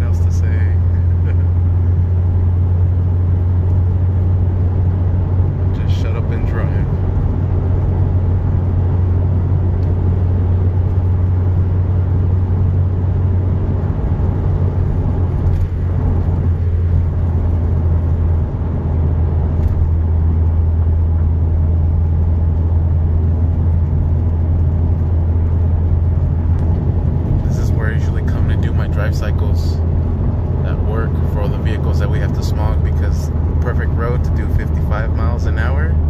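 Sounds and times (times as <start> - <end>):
car engine drone: 0.0 - 36.0
road noise: 0.0 - 36.0.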